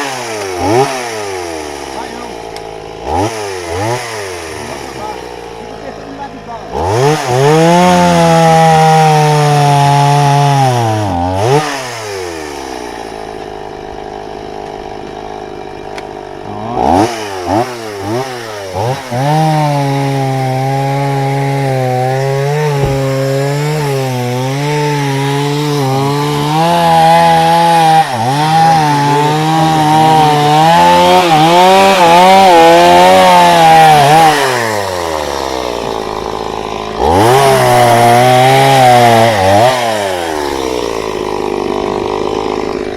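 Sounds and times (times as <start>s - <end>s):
chainsaw revving and cutting wood: 0.0s - 42.9s.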